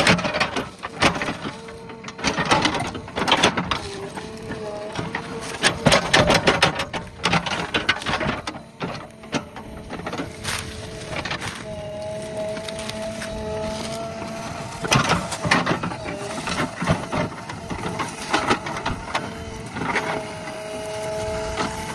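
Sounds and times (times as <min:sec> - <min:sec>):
engine and hydraulics humming: 0:00.0 - 0:21.9
wood cracking and snapping: 0:00.0 - 0:21.9.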